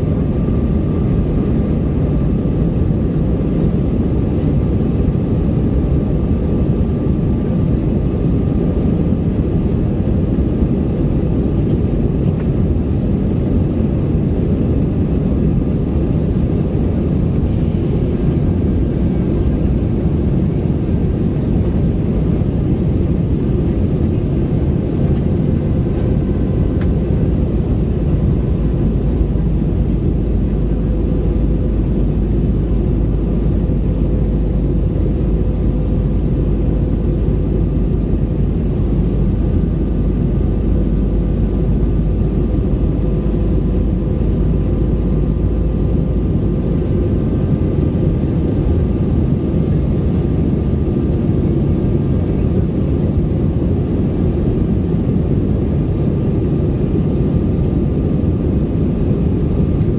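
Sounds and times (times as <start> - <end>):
jet cabin engine and airflow noise: 0.0 - 59.9.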